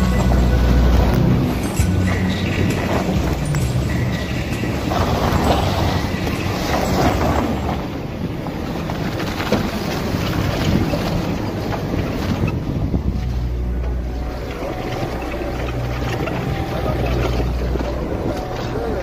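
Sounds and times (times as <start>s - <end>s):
engine running at low speed: 0.0s - 19.0s
wind buffeting the microphone: 0.0s - 19.0s.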